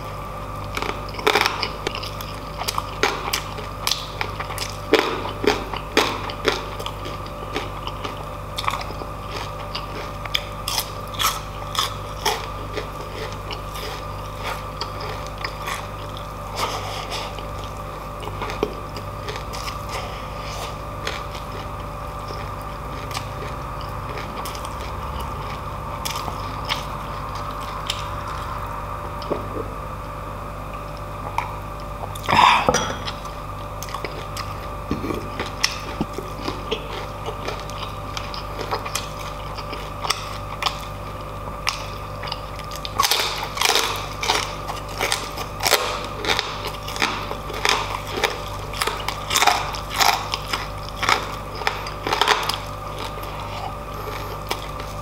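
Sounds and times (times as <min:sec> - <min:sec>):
crunchy chewing: 0:00.0 - 0:55.0
steady background hum: 0:00.0 - 0:55.0.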